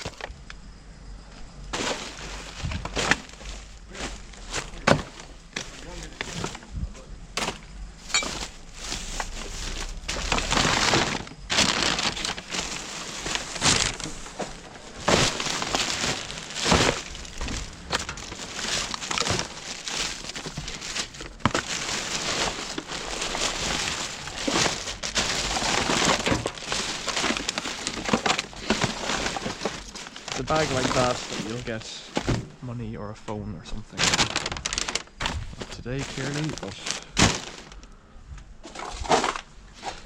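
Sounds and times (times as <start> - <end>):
plastic bag rustling: 0.0 - 0.4, 1.7 - 6.7, 7.3 - 32.6, 33.8 - 38.0, 38.6 - 40.0
rubbish knocking and crackling: 0.0 - 0.5, 1.4 - 6.7, 7.3 - 32.7, 33.9 - 37.9, 38.6 - 40.0.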